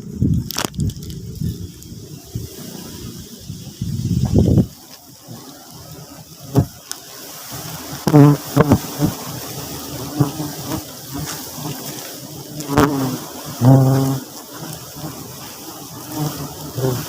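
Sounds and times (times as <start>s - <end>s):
honeybees buzzing: 0.0s - 17.0s
steady hiss: 0.0s - 17.0s.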